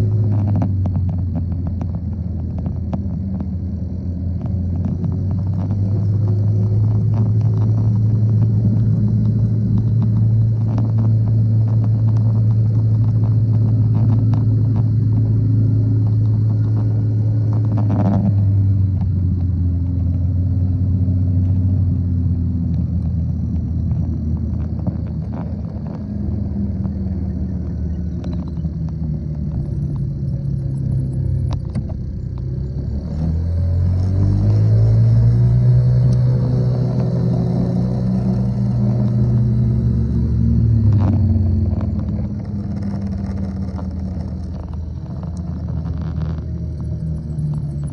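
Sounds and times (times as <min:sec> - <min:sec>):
motorcycle engine rumbling: 0:00.0 - 0:47.9.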